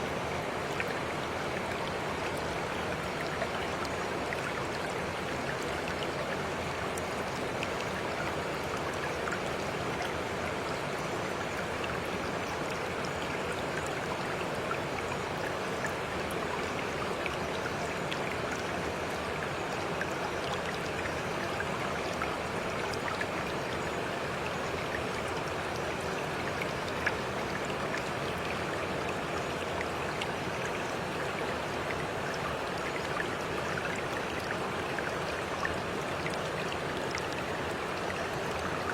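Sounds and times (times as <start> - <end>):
faint water drips: 0.0 - 38.9
flowing water rushing: 0.0 - 38.9.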